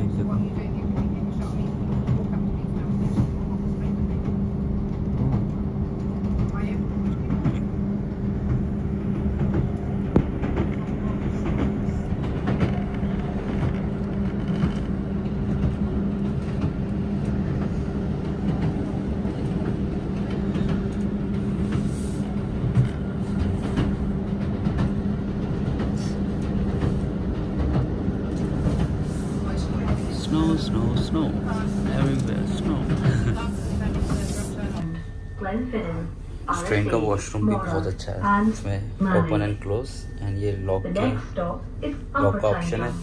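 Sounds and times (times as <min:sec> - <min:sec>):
train engine drone: 0:00.0 - 0:43.0.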